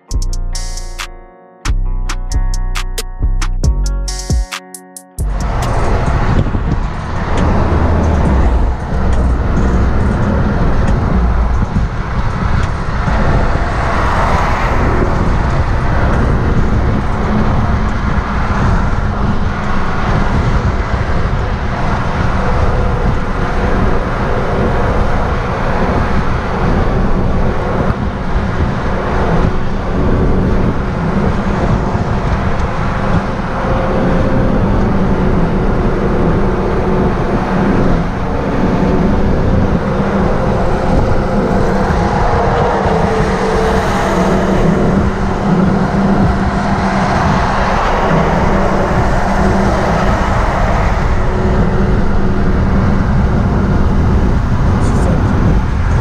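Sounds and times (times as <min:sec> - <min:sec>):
car engine rumble: 0:05.2 - 0:56.0
road noise: 0:05.2 - 0:56.0.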